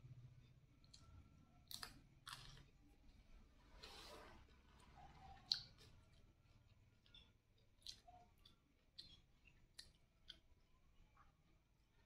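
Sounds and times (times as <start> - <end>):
chewing fried rice: 0.8 - 12.0.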